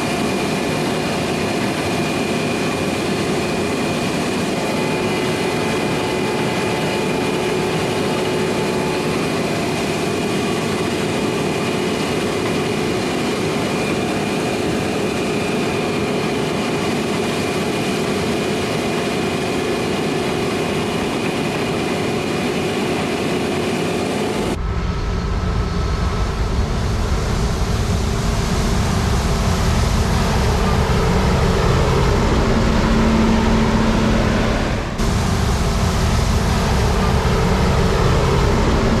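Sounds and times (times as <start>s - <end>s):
heavy machinery whining: 0.0s - 24.6s, 27.4s - 39.0s
deep heavy engine: 0.0s - 39.0s.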